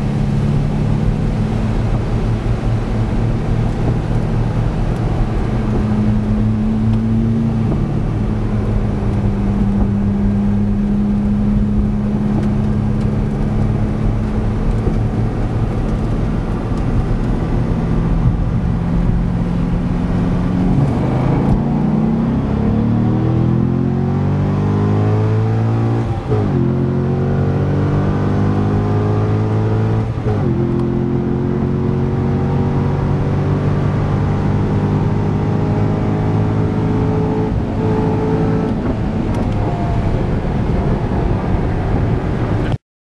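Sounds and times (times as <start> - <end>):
sports car engine at full throttle: 0.0 - 42.8.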